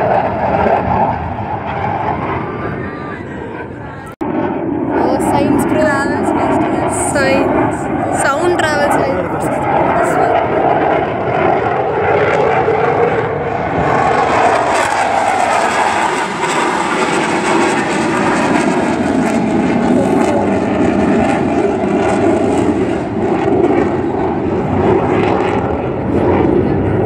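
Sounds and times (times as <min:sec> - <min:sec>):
fighter jet engine roar: 0:00.0 - 0:27.0.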